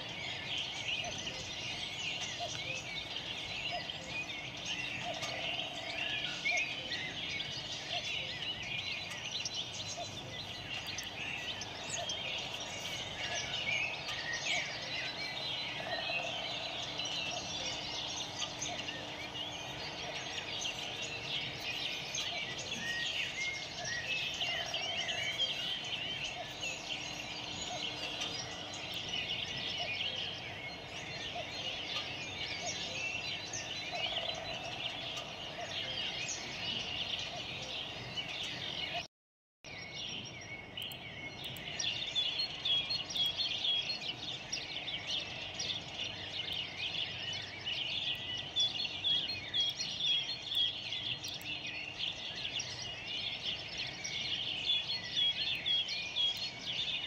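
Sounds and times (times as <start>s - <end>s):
small birds chirping: 0.0s - 39.1s, 39.7s - 57.0s.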